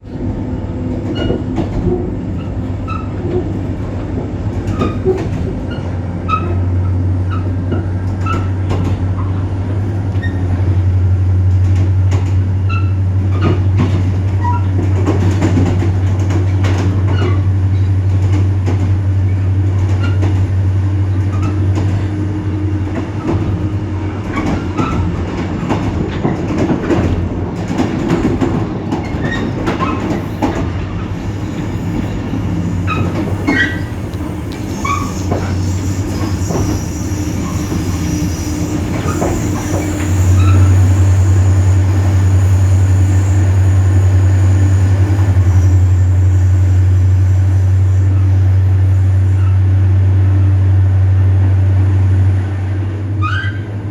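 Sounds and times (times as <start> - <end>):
diesel locomotive engine droning: 0.0 - 53.9
train wheel noise: 0.0 - 53.9
rail clicks: 0.2 - 53.9.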